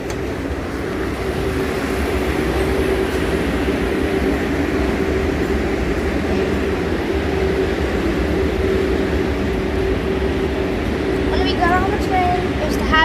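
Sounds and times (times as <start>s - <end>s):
steady hum: 0.0s - 13.0s
subway train rumble: 0.0s - 13.0s.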